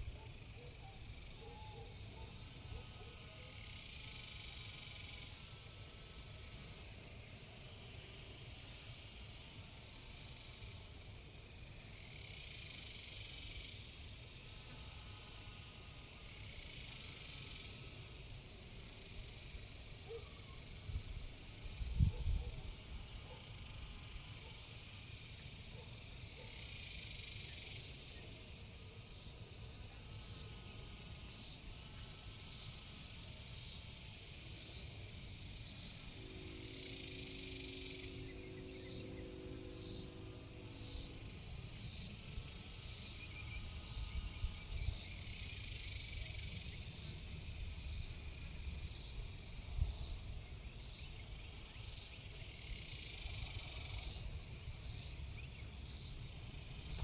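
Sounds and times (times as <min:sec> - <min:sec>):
insect chirps: 0:00.0 - 0:57.0
insects trilling: 0:00.0 - 0:57.0.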